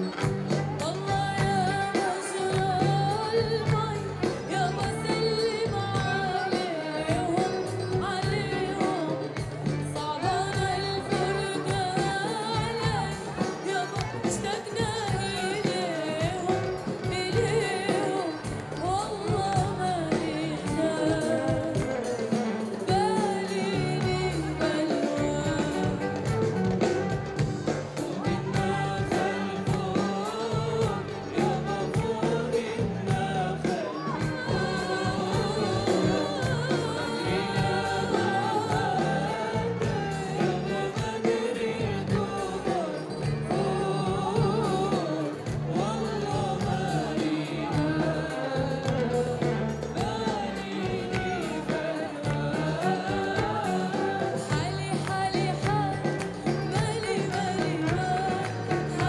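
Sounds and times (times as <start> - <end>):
band playing: 0.0 - 59.0
woman singing into microphone: 0.0 - 59.0.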